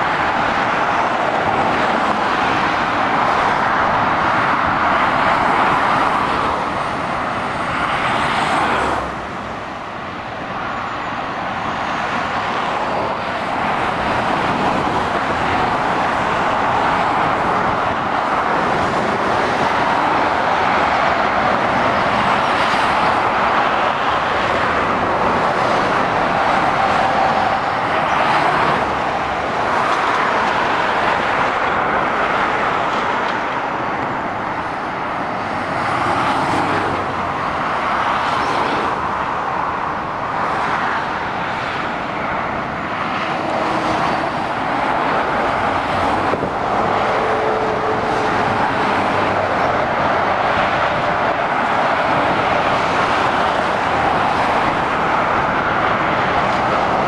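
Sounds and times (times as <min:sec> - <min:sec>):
motorway traffic noise: 0:00.0 - 0:57.0.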